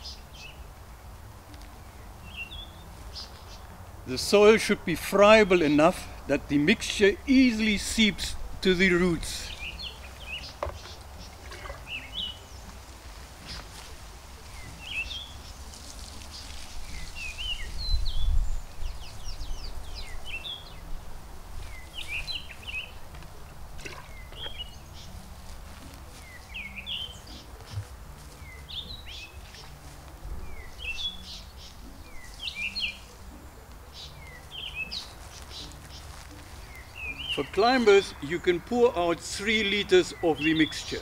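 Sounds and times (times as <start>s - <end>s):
birds chirping: 0.0s - 0.8s, 1.5s - 41.0s.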